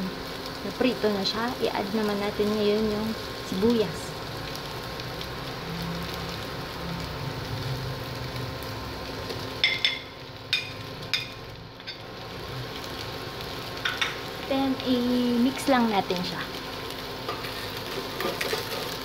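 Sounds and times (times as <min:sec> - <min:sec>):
meat and potatoes sizzling: 0:00.0 - 0:19.0.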